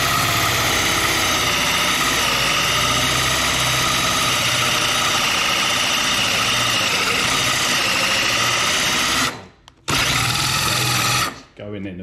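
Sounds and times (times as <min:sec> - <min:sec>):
drill hole saw cutting worktop: 0:00.0 - 0:11.5.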